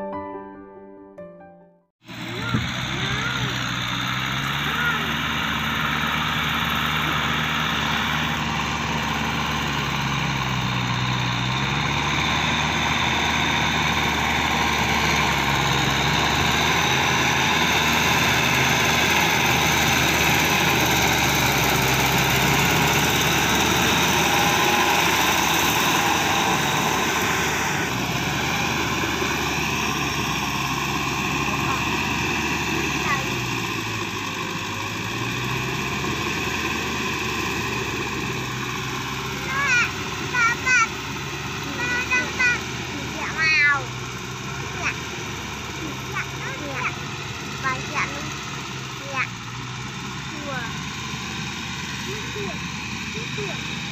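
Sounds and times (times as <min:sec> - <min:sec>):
tractor diesel engine drone: 0:02.0 - 0:53.9.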